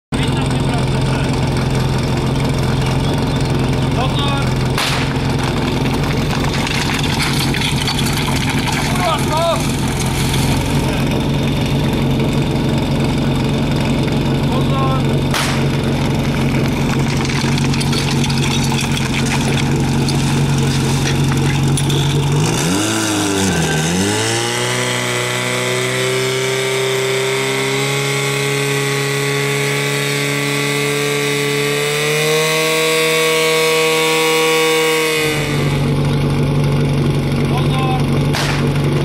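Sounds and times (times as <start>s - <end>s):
pump engine revving: 0.1s - 39.0s.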